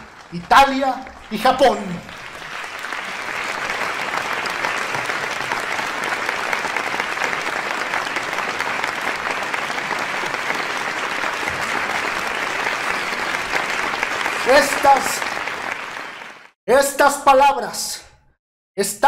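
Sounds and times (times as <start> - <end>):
large audience applauding: 0.0 - 16.6.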